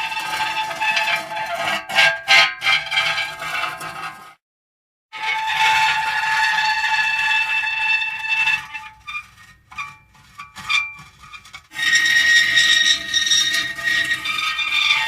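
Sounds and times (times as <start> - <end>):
metal creaking and squealing: 0.0 - 4.3, 5.2 - 15.0.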